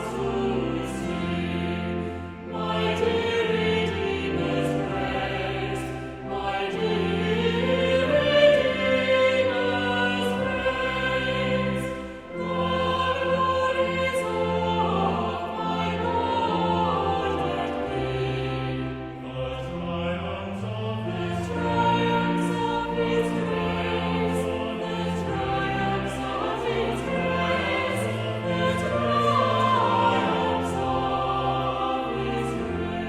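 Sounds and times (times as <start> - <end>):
choir singing a slow piece: 0.0 - 33.0.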